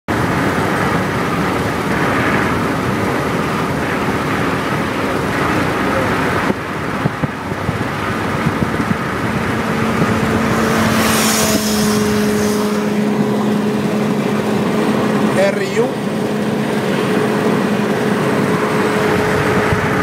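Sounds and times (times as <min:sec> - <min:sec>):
car road noise at speed: 0:00.1 - 0:20.0
wind buffeting microphone: 0:00.1 - 0:20.0.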